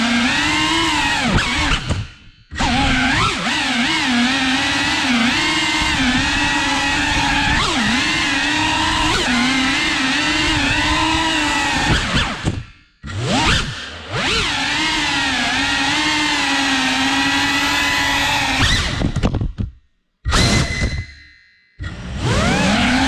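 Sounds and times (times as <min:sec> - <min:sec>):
drone motors whining: 0:00.0 - 0:19.3, 0:20.3 - 0:23.0.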